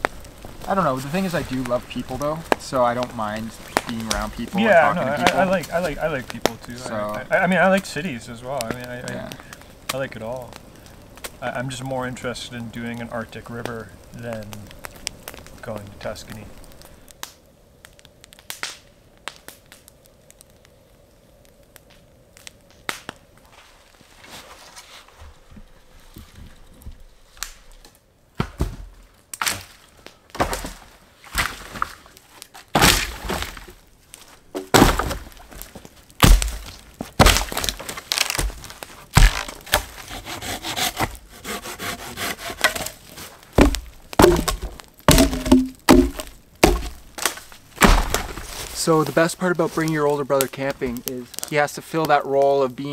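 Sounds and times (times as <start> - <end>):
dry branches cracking: 0.0 - 52.9.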